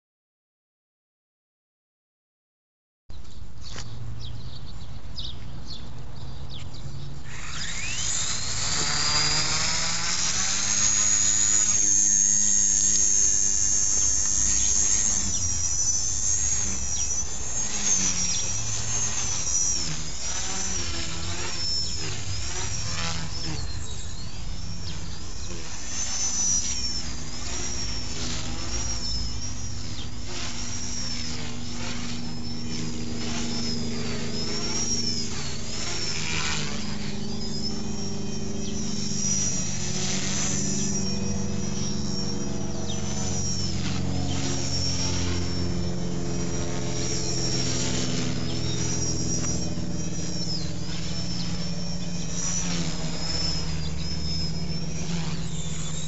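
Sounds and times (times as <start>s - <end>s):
rc helicopter motor whining: 3.2s - 56.0s.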